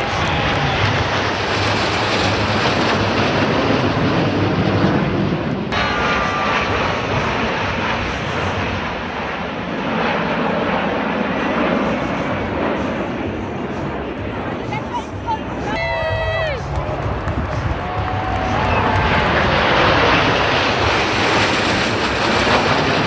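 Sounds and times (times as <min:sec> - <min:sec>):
jets flying over: 0:00.0 - 0:23.0.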